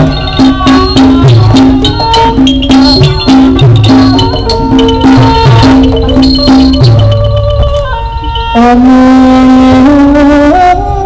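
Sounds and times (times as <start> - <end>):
drumming and rattling percussion: 0.0 - 10.1
melody of held notes: 0.0 - 10.3.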